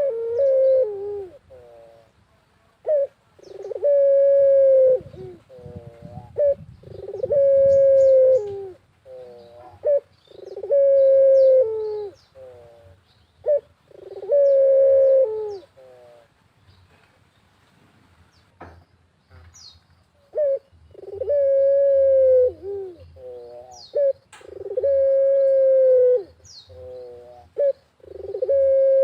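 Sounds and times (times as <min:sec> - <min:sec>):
dove cooing: 0:00.0 - 0:02.1, 0:02.8 - 0:16.3, 0:20.2 - 0:29.0.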